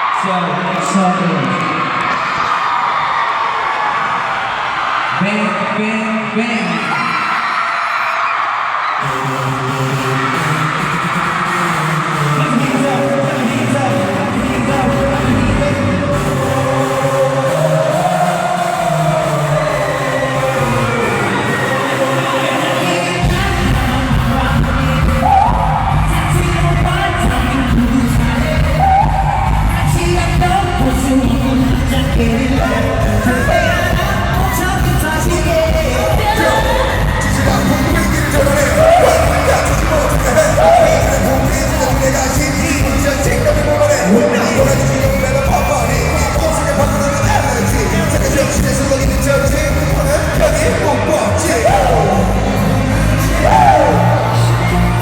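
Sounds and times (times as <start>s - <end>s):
heavy bass beat: 9.0s - 55.0s
live pop music with singing: 9.0s - 55.0s.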